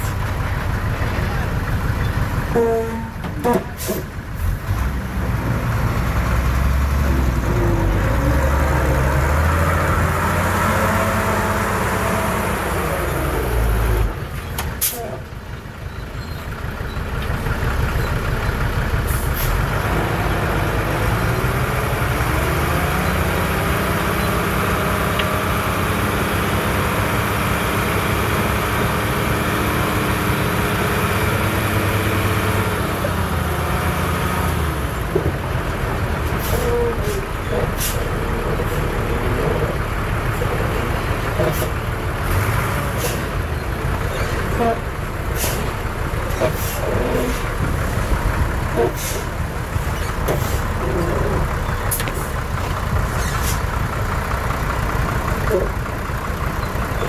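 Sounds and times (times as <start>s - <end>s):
heavy diesel engine revving: 0.0s - 57.0s.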